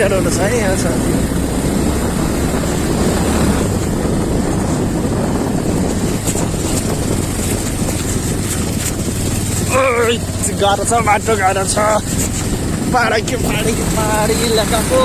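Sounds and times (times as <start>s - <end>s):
motorcycle engine running: 0.0s - 15.0s
wind rumbling on microphone: 0.0s - 15.0s.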